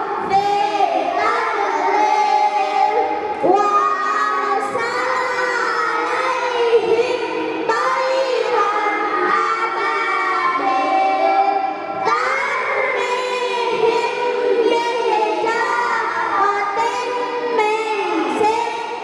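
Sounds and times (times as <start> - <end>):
children singing: 0.0 - 19.0.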